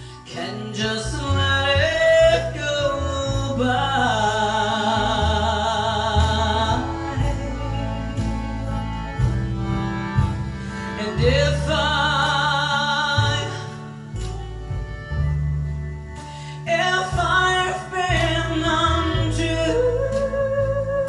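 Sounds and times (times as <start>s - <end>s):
song over loudspeakers: 0.0s - 21.0s.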